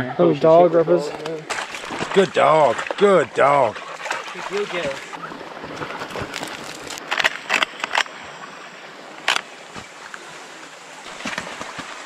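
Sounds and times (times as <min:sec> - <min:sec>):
running stream water: 0:00.0 - 0:12.0.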